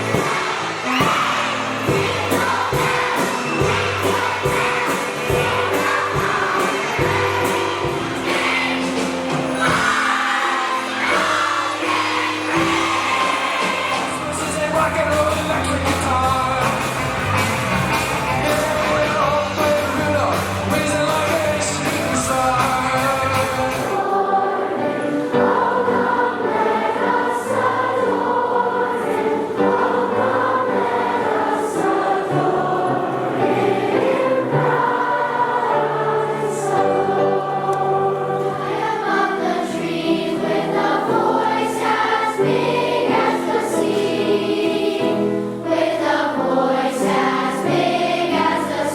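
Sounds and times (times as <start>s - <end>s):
choir singing: 0.0s - 48.9s.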